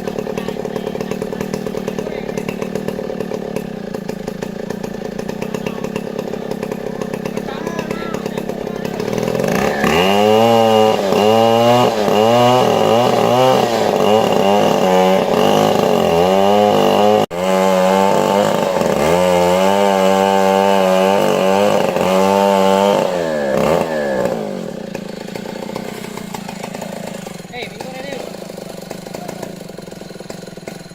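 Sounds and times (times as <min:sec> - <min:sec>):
chainsaw cutting wood: 0:00.0 - 0:30.9.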